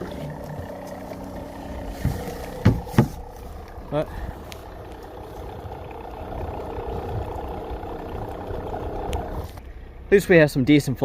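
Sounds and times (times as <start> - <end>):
vacuum pump humming: 0.0 - 9.6.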